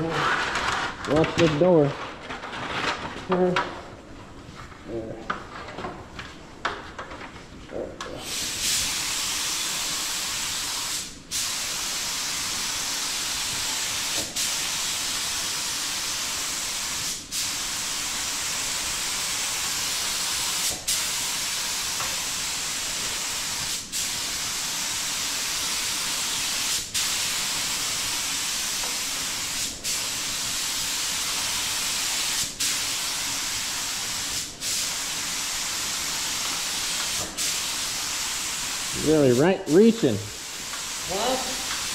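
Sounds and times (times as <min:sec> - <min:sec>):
paint spray gun hissing: 0:08.2 - 0:41.9.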